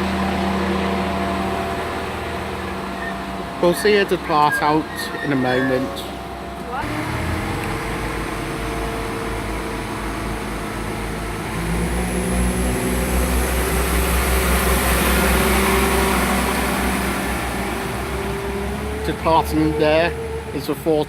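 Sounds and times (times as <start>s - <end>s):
diesel train engines accelerating: 0.0s - 21.0s.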